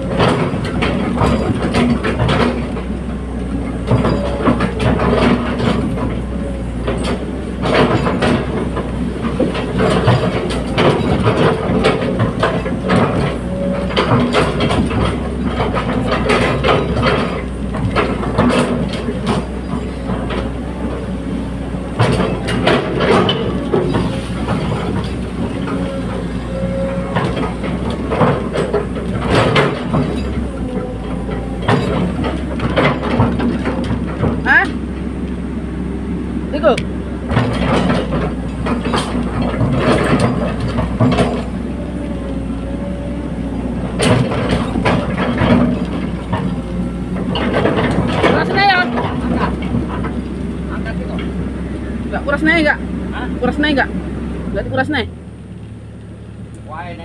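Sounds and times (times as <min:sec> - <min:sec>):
metallic knocks and clanks: 0:00.0 - 0:35.4, 0:36.6 - 0:55.2
excavator diesel engine running: 0:00.0 - 0:57.0.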